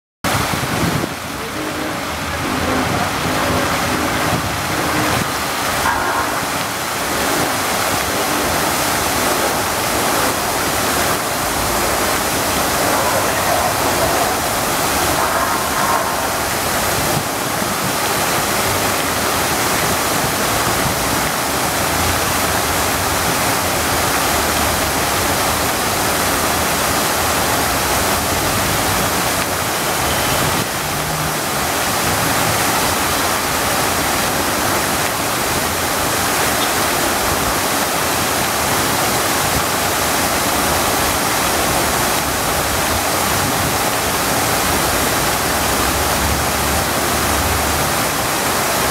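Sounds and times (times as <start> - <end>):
fountain water splashing: 0.3 - 48.9.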